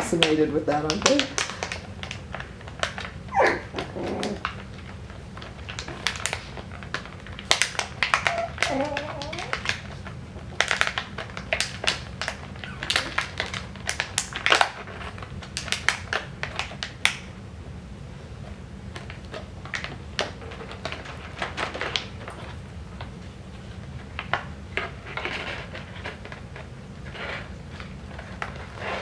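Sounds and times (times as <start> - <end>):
puppies playing with light clicks: 0.0 - 17.4, 18.9 - 29.0.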